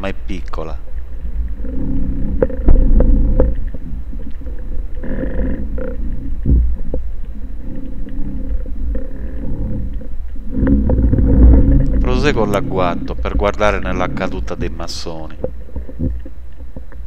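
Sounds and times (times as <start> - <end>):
underwater rumble of moving water: 0.0 - 17.0
faint clicks: 0.4 - 17.0.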